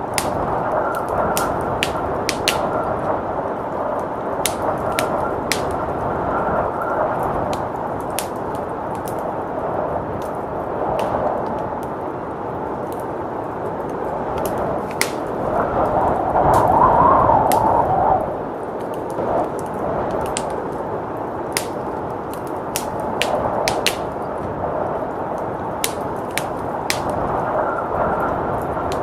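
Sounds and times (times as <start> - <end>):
blizzard wind: 0.0 - 29.0
wood fire crackling and popping: 0.0 - 29.0.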